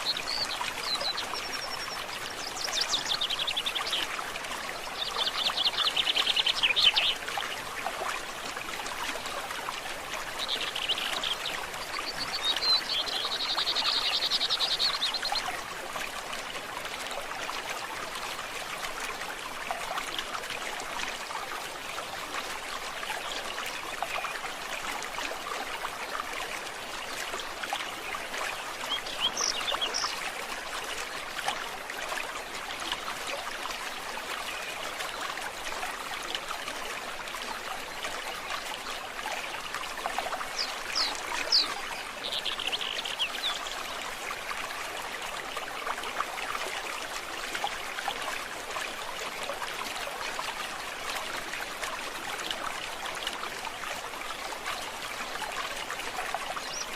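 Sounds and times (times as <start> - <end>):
stream trickling and burbling: 0.0 - 56.9.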